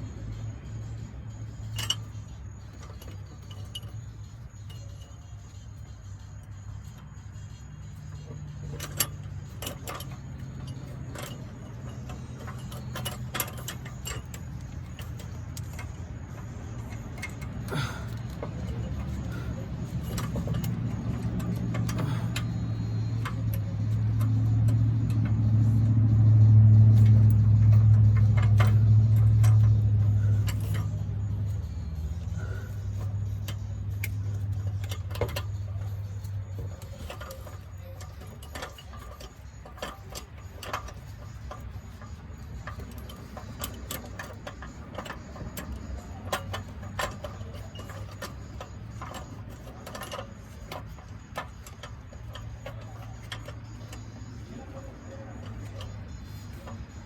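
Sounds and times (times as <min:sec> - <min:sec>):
low steady engine drone: 0:00.0 - 0:57.0
tools clicking and knocking: 0:01.4 - 0:57.0.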